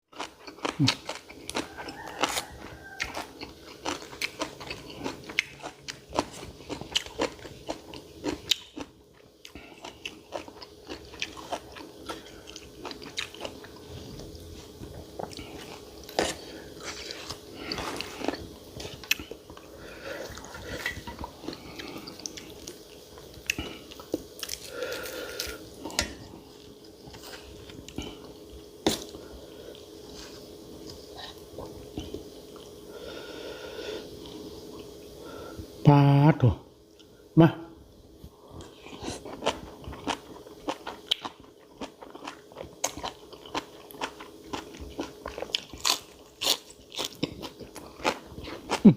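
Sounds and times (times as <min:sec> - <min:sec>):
crunchy chewing: 0:00.1 - 0:32.8, 0:38.6 - 0:48.9
faint steady hum: 0:00.1 - 0:48.9.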